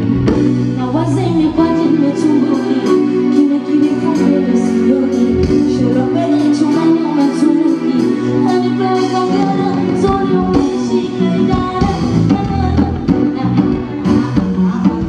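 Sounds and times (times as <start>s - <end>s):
drums: 0.0s - 15.0s
live band music: 0.0s - 15.0s
person singing: 0.8s - 15.0s.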